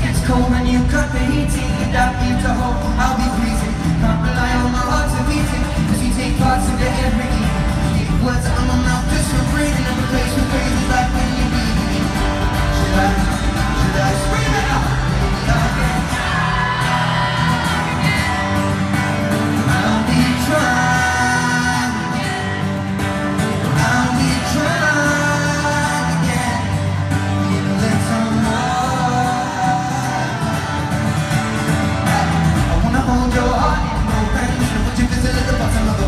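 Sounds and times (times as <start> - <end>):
man singing wordless vocals: 0.0 - 18.6, 19.6 - 22.6, 23.7 - 30.9, 32.0 - 36.0
strummed acoustic guitar: 0.0 - 36.0.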